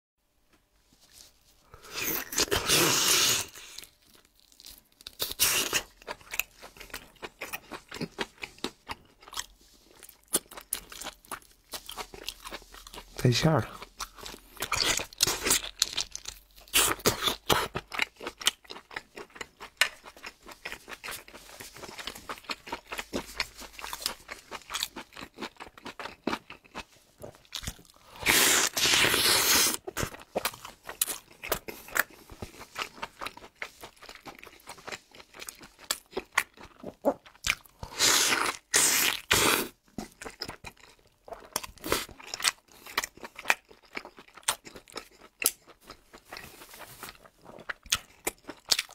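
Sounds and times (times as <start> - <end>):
man chewing food: 1.0 - 48.9.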